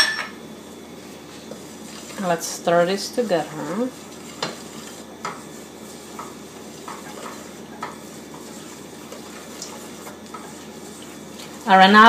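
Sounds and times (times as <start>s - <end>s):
wooden spoon scraping a pot: 1.1s - 12.0s.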